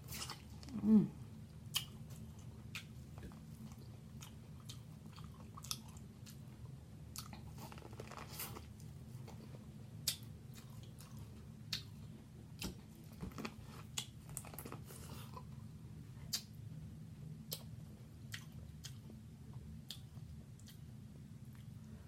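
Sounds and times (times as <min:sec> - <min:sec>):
person chewing food: 0:00.0 - 0:00.8, 0:01.4 - 0:16.6, 0:17.3 - 0:22.0
steady low hum: 0:00.0 - 0:22.0.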